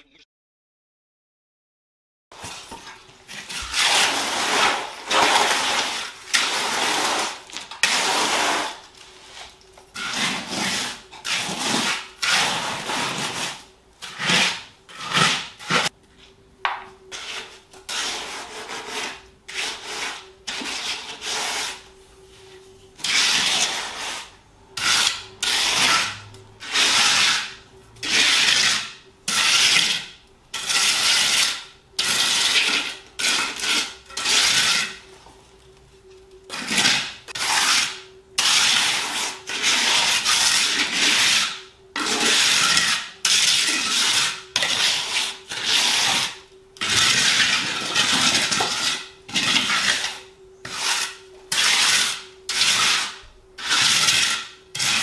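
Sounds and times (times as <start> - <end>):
trowel scraping render: 2.4 - 16.0, 17.1 - 21.9, 23.0 - 35.0, 36.5 - 55.0.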